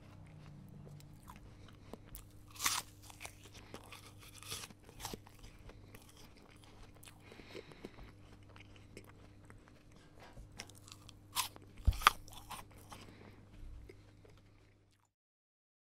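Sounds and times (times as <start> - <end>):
person chewing crisp apple: 0.0 - 15.1.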